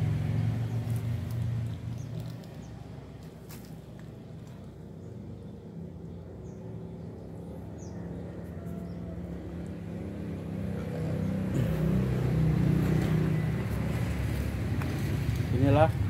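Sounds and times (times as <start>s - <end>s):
vehicle engine approaching: 0.0s - 16.0s.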